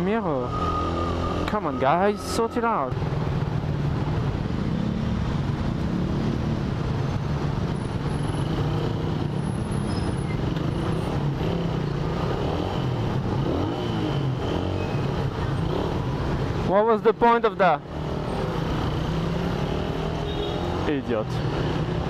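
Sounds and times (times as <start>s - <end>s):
traffic rumble: 0.0s - 22.0s
motorcycle engines at low revs: 0.2s - 22.0s.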